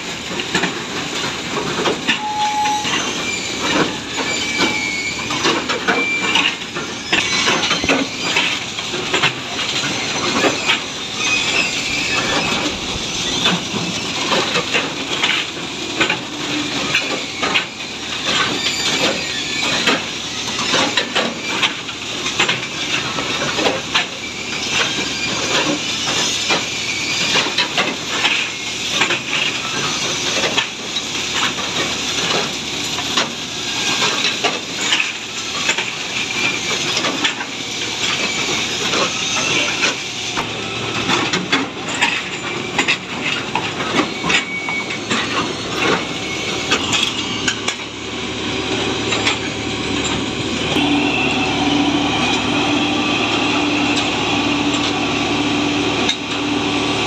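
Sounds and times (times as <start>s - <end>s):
track machine running: 0.0s - 57.0s.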